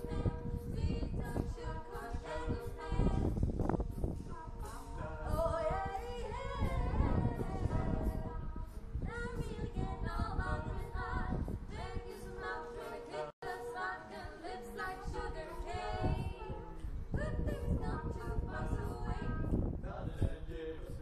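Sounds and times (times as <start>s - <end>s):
a cappella group singing harmony: 0.0s - 21.0s.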